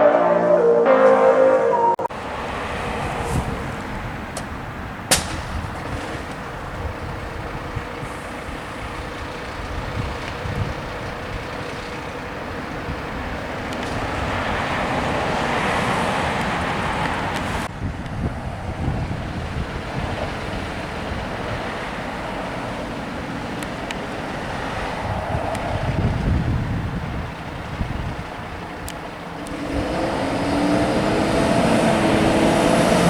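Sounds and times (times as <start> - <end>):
road noise: 0.0 - 33.0
truck engine: 0.0 - 33.0.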